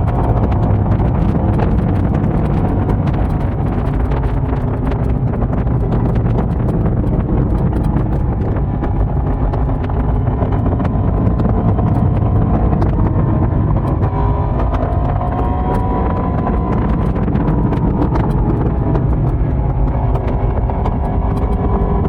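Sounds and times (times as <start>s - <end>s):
motorcycle engine and exhaust: 0.0s - 22.0s
wind noise on microphone: 0.0s - 22.0s.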